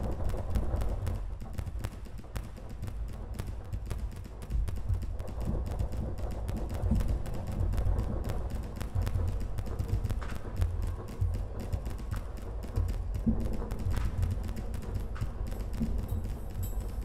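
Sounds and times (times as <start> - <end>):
dense irregular clicks and crackles: 0.0 - 17.0.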